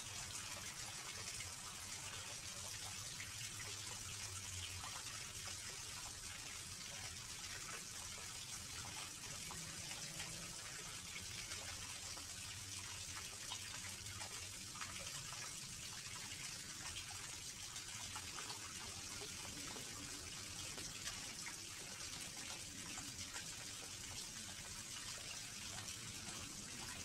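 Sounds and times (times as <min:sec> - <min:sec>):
water pouring over rocks: 0:00.0 - 0:27.0.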